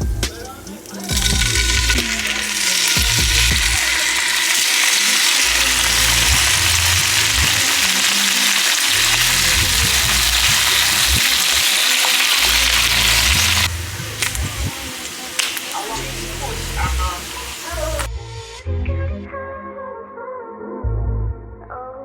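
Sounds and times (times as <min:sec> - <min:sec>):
loud sizzling hiss: 0:00.0 - 0:18.1.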